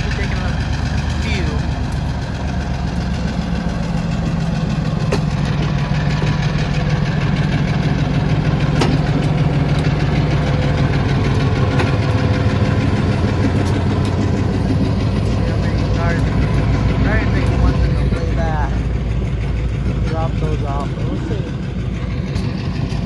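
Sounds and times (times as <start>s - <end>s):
locomotive engine humming: 0.0s - 23.0s.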